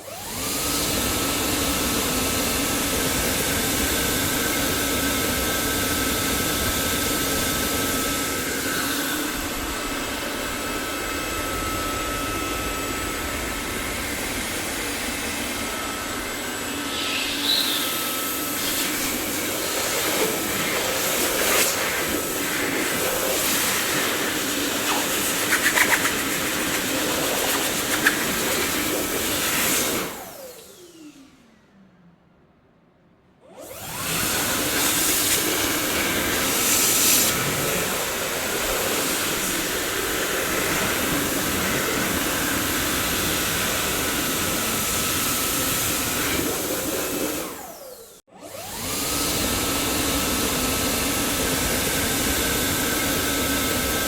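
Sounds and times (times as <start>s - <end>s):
vacuum cleaner motor running: 0.0s - 31.7s, 33.4s - 54.0s.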